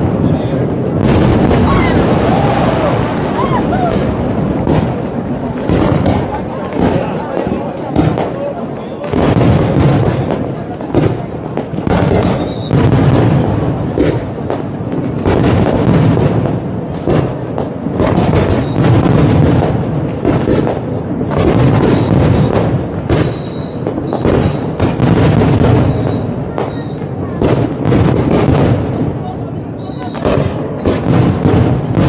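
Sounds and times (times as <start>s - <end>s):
fireworks bangs and booms: 0.0s - 32.0s.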